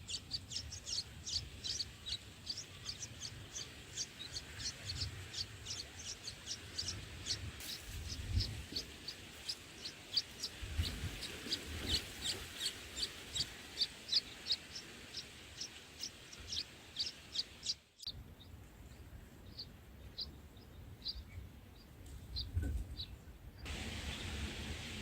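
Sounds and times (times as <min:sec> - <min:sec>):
small bird chirping: 0:00.0 - 0:23.7
low background rumble: 0:00.0 - 0:25.0.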